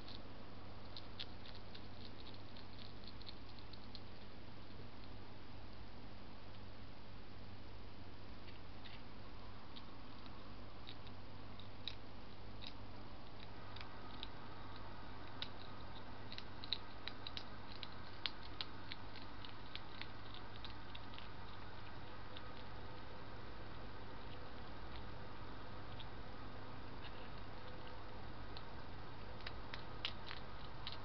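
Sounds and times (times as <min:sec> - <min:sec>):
hedgehogs crunching dry food: 0:00.0 - 0:05.2, 0:09.7 - 0:31.0.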